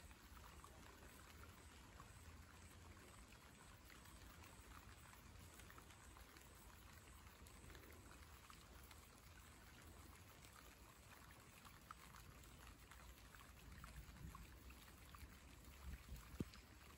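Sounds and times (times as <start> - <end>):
light rain on water: 0.0 - 16.9.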